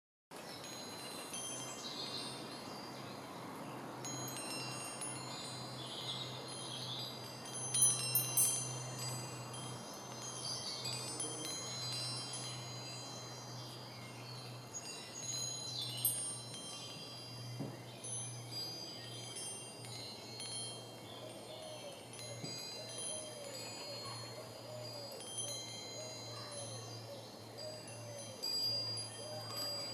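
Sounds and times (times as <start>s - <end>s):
wind chime tinkling: 0.4s - 29.9s.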